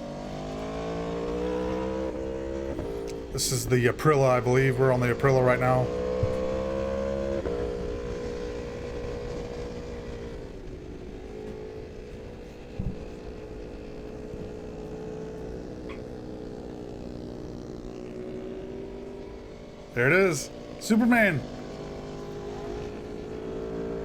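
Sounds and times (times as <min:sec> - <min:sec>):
motorcycle engine at high speed: 0:00.0 - 0:24.0.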